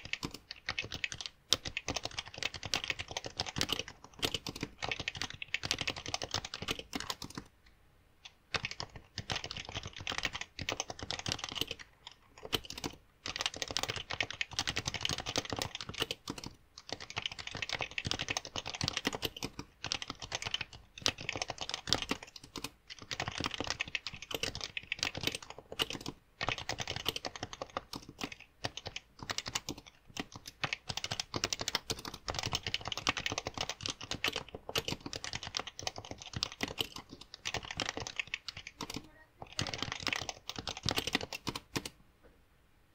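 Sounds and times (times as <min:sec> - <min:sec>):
fast typing on keyboard: 0:00.0 - 0:07.5, 0:08.3 - 0:42.0.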